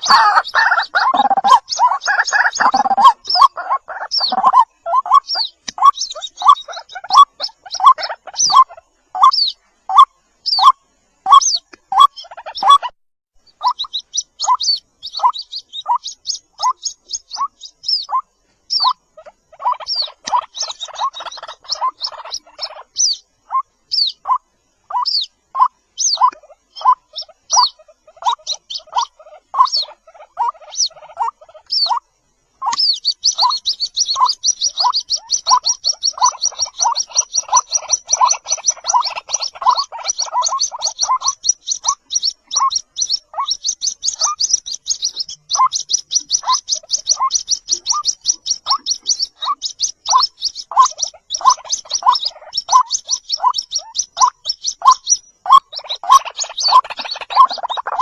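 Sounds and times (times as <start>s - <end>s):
chicks peeping: 0.0s - 58.0s
high chirps: 0.0s - 58.0s.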